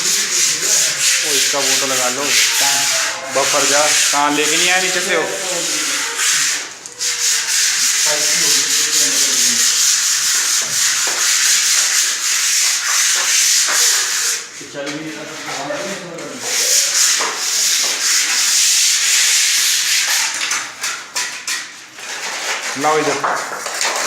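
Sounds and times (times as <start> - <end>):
sandpaper rasping: 0.0 - 24.0.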